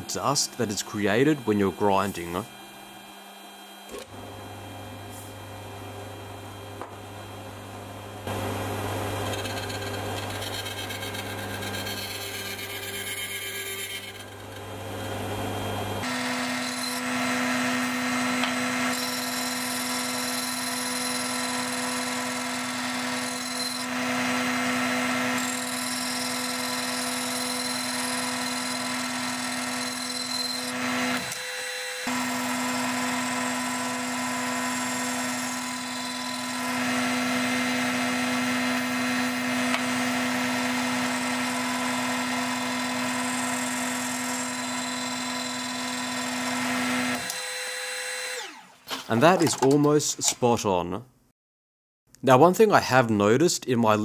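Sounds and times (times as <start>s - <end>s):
grinder spindle hum and whine: 0.0s - 48.7s.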